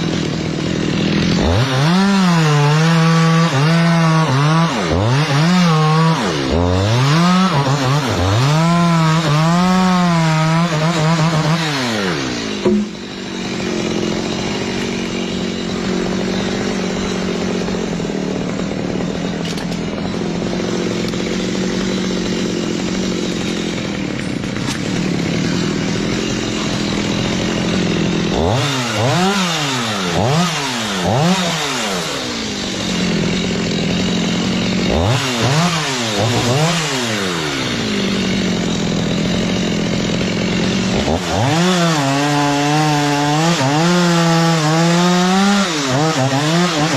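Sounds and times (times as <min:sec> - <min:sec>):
chainsaw running and revving: 0:00.0 - 0:46.9.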